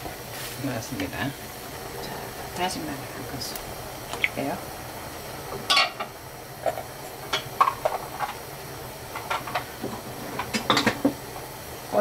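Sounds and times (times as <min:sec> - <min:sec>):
pot simmering hiss: 0:00.0 - 0:12.0.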